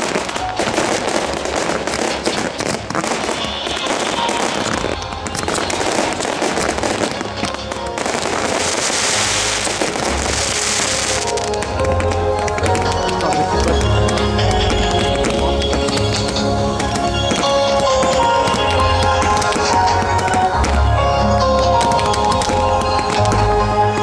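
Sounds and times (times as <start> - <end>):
fireworks bangs and crackling: 0.0 - 24.0
hissing crackle: 0.0 - 24.0
music: 0.0 - 24.0.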